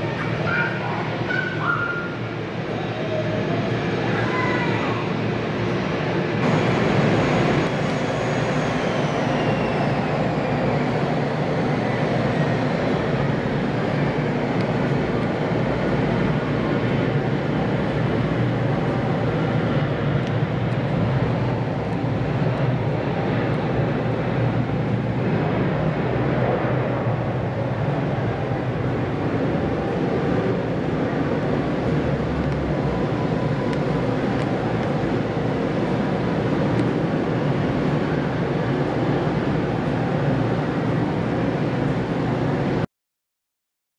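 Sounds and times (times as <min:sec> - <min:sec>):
jet engines roaring: 0:00.0 - 0:42.8
high engine whine falling in pitch: 0:01.2 - 0:42.8.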